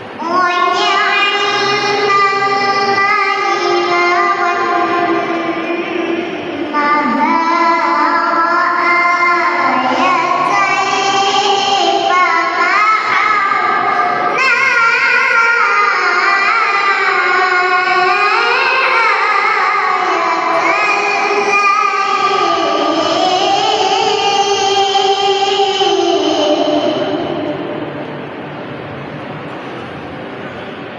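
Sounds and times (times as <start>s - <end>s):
girl reciting in melodic chant: 0.1s - 28.0s.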